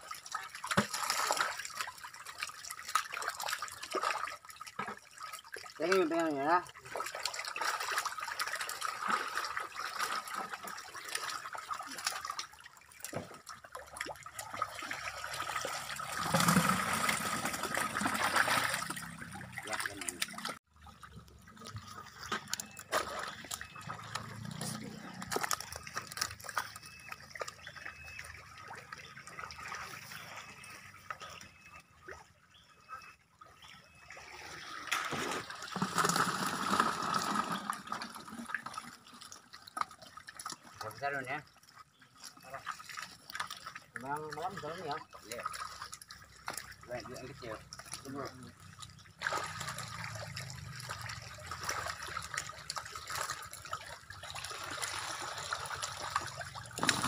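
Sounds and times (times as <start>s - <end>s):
water splashing and trickling: 0.0s - 57.0s.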